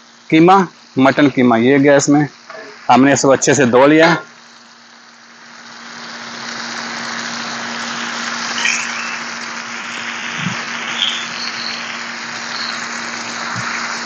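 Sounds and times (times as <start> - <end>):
meat sizzling on a hot griddle: 0.0 - 14.0.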